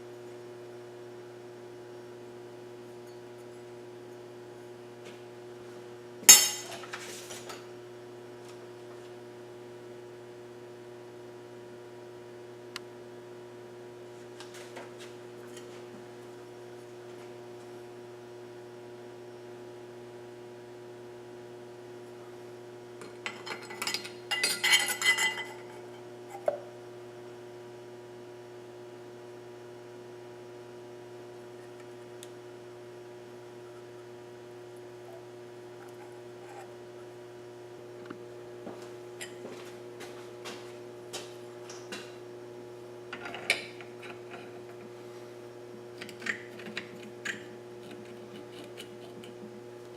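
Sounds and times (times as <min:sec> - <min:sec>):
steady electrical hum: 0:00.0 - 0:49.9.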